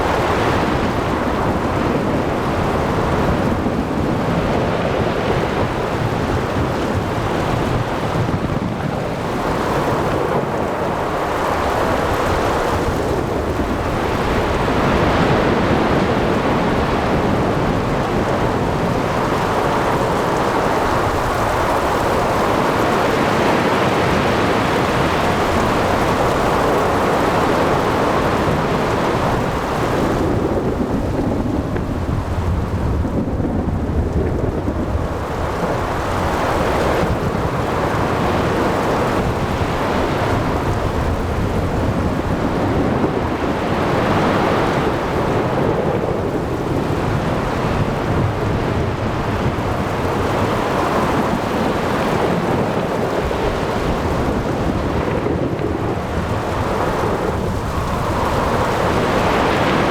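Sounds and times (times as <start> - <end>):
ocean waves washing: 0.0 - 59.9
rain: 0.0 - 59.9
wind: 0.0 - 59.9.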